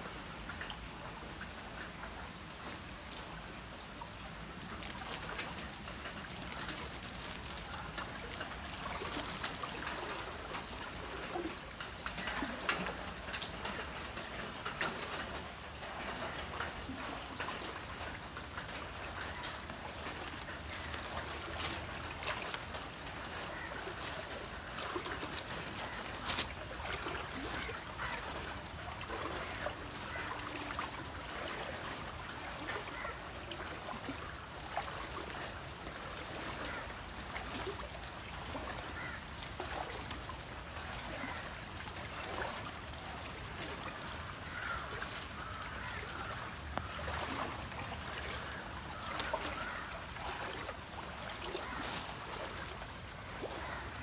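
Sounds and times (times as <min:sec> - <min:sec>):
wading through water sloshing: 0:00.0 - 0:54.0
sharp splashes: 0:04.3 - 0:54.0.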